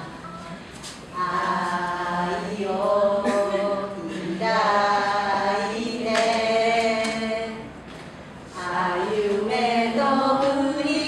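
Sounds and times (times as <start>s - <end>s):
woman singing unaccompanied: 1.1s - 7.7s, 8.6s - 11.0s.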